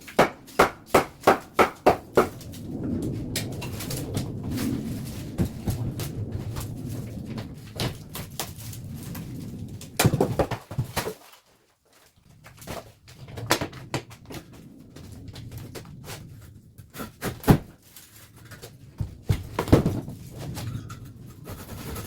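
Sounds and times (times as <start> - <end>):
knocks clatters and scrapes: 0.0 - 22.0.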